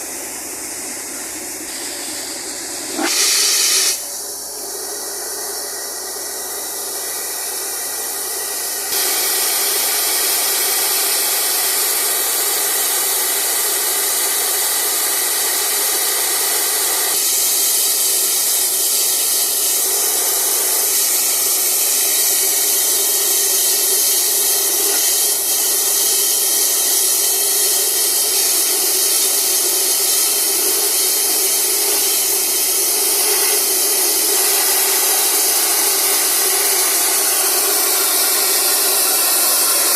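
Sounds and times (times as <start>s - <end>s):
air and water blasting from well: 0.0s - 39.9s.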